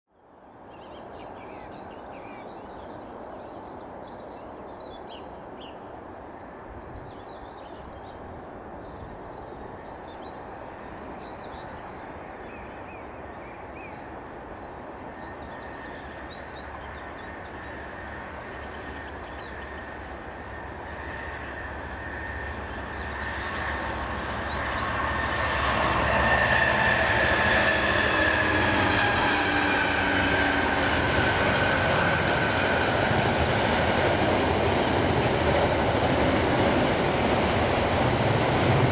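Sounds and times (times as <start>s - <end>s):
rail noise: 0.3s - 38.9s
diesel locomotive engine: 7.6s - 38.9s.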